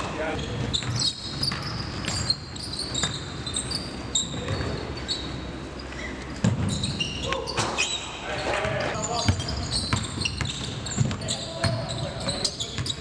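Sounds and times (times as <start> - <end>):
sneakers squeaking: 0.0 - 13.0.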